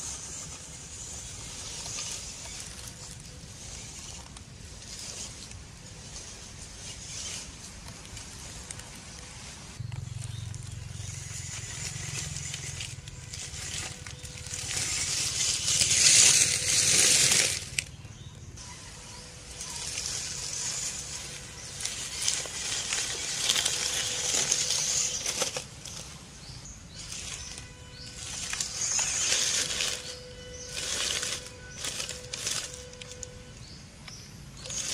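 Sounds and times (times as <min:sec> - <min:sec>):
rc truck crunching dry leaves: 0:00.0 - 0:34.9.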